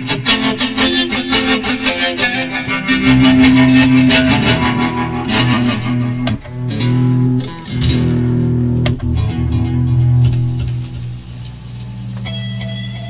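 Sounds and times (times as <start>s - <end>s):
electric guitar notes ringing: 0.0s - 13.0s.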